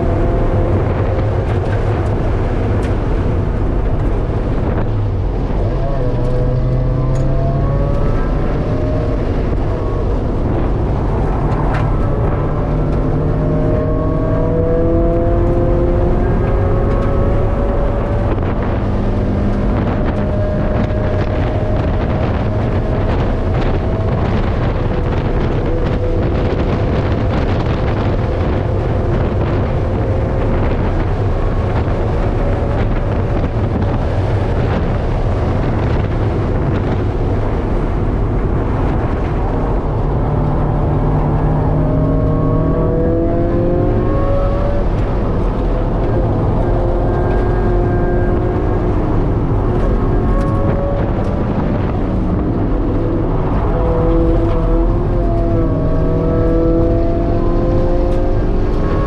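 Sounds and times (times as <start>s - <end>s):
car engine revving: 0.0s - 59.0s
road noise: 0.0s - 59.0s
wind noise: 0.0s - 59.0s.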